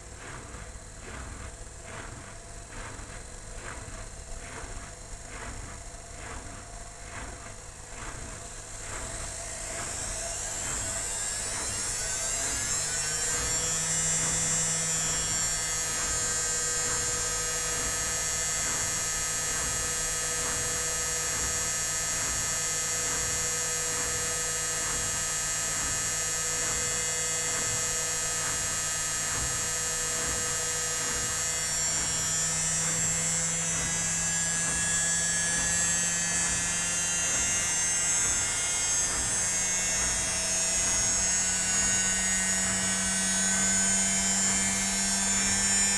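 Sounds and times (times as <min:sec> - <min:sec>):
washing machine spin motor whine: 0:00.0 - 0:45.9.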